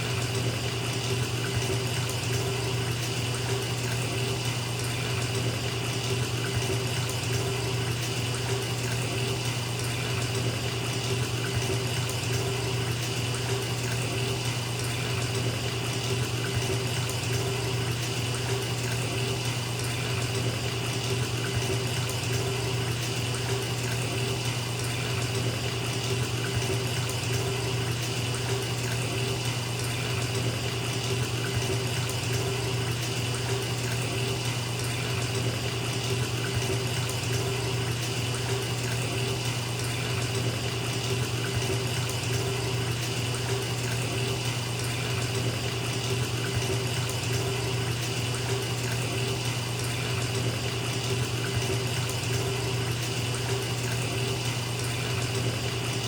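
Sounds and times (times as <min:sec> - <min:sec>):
water pouring into bathtub: 0:00.0 - 0:56.0.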